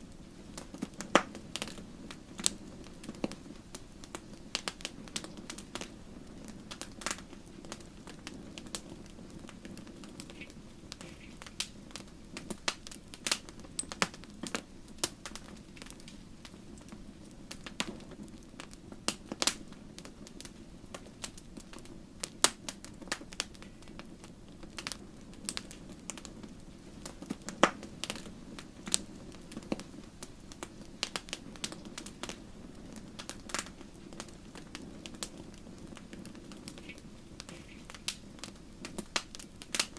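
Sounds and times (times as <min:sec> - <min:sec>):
fire snaps and pops: 0:00.0 - 0:39.9
low fire rumble: 0:00.0 - 0:39.9
wood fire crackling: 0:00.0 - 0:39.9.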